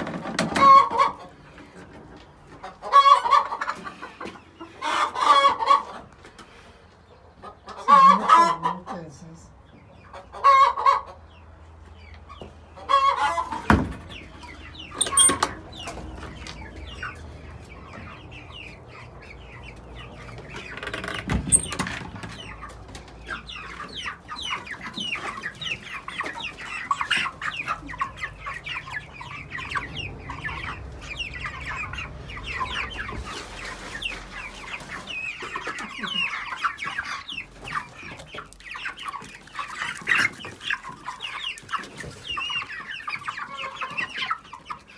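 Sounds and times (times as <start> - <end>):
hens clucking: 0.0 - 44.9
young chickens peeping: 0.0 - 44.9.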